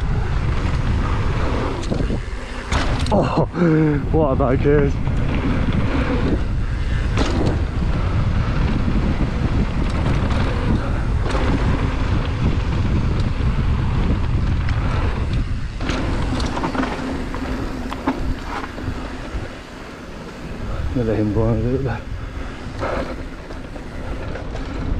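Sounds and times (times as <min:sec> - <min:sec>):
bike knocks and rattles: 0:00.0 - 0:24.9
mountain bike tyre rumble: 0:00.0 - 0:24.9
wind buffeting microphone: 0:00.0 - 0:24.9.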